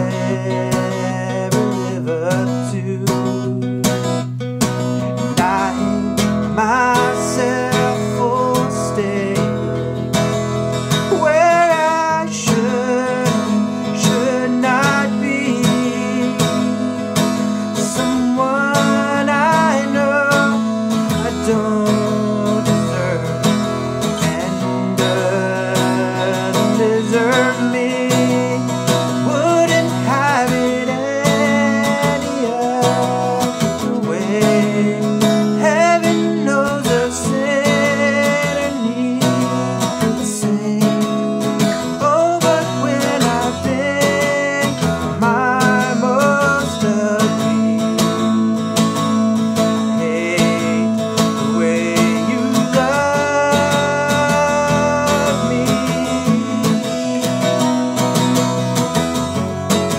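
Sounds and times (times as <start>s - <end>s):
acoustic guitar strumming: 0.0s - 59.9s
man singing: 0.0s - 59.9s.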